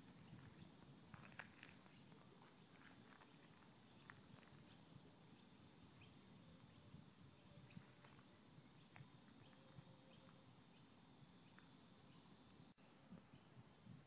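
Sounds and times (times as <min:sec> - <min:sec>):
faint ticks and chirps: 0:00.0 - 0:14.0.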